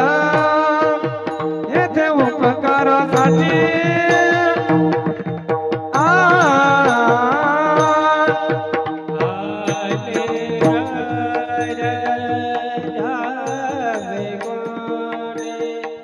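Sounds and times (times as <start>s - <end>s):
drum strokes: 0.0s - 14.8s
steady held tones: 0.0s - 16.0s
voices singing devotional melody: 0.0s - 16.0s.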